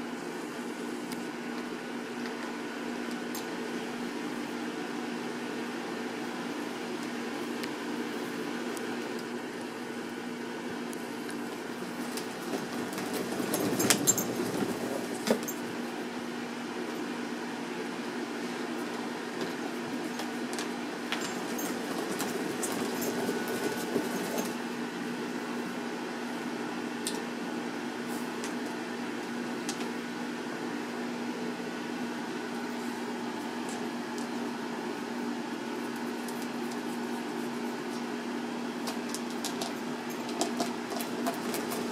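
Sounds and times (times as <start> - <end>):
exercise wheel humming: 0.0 - 31.5, 32.1 - 41.9.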